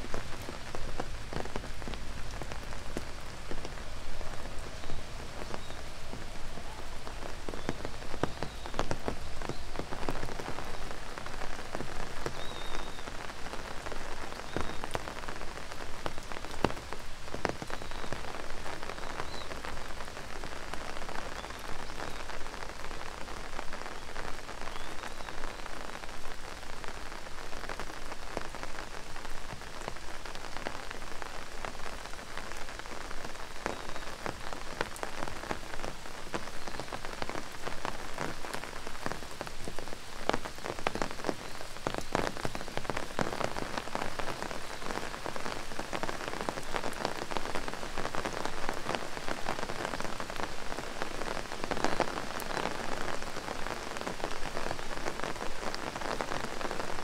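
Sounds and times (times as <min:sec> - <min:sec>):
raindrops tapping: 0:00.0 - 0:57.0
steady rain hiss: 0:00.0 - 0:57.0.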